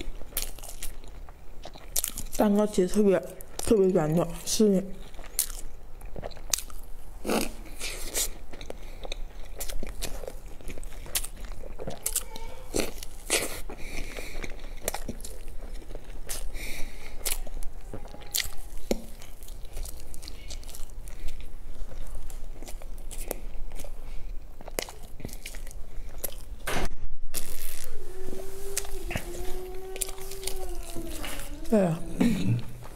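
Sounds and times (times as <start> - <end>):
chewing and biting cake: 0.0 - 26.6, 28.8 - 31.8.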